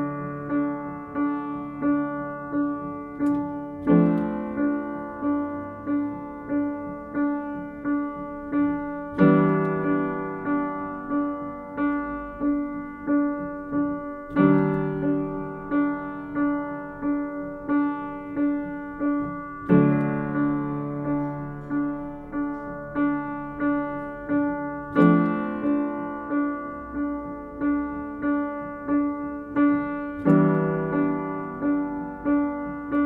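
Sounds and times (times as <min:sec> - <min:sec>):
piano-like keyboard music: 0:00.0 - 0:33.0.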